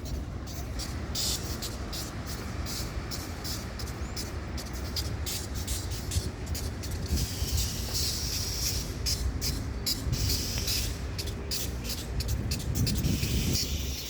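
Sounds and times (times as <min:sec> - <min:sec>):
sharp train clicks: 0:00.0 - 0:14.0
train hiss: 0:00.0 - 0:14.0
train rumble: 0:00.0 - 0:14.0.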